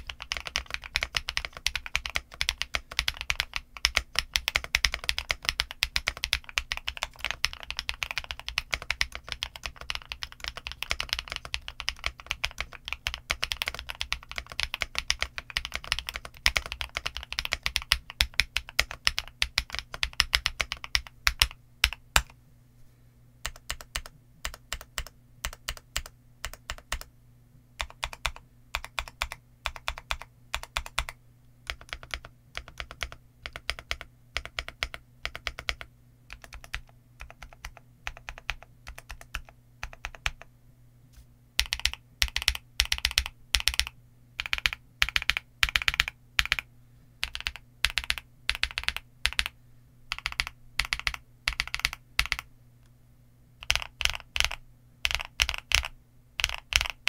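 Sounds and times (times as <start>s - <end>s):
mechanical keyboard typing: 0.0s - 22.4s, 23.4s - 27.1s, 27.8s - 40.5s, 41.6s - 52.5s, 53.6s - 57.0s.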